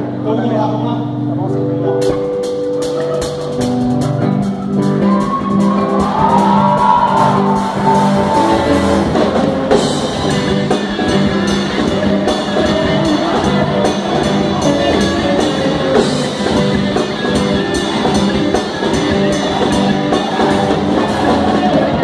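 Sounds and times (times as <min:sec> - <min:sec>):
live worship band music: 0:00.0 - 0:22.0
drum kit with cymbal strikes: 0:01.9 - 0:22.0.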